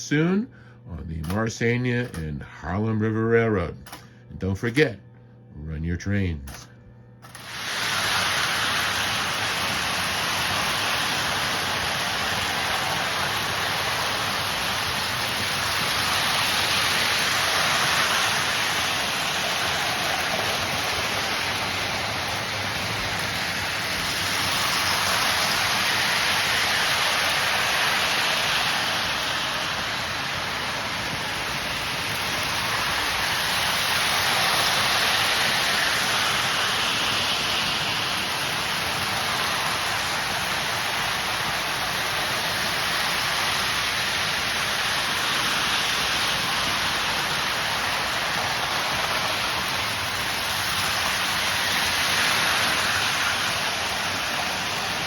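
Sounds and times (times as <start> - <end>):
model trains whirring on rails: 7.2 - 55.0.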